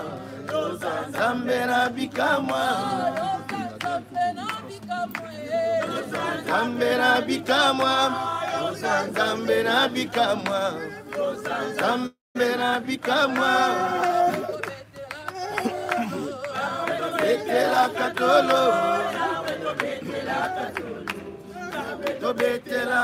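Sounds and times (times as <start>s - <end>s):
group singing a hymn unaccompanied: 0.0s - 23.0s.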